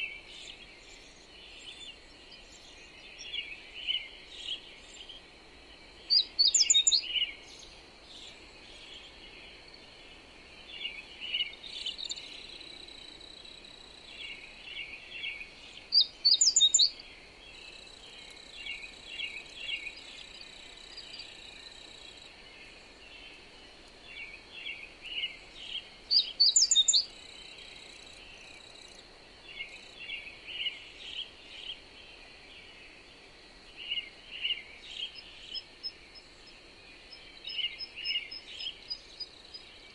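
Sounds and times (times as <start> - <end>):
birds chirping softly: 0.0 - 39.9
faint wind noise: 0.0 - 39.9.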